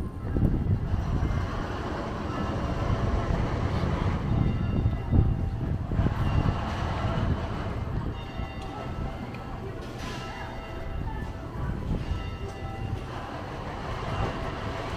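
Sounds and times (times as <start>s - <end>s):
motor traffic rumble: 0.0s - 14.9s.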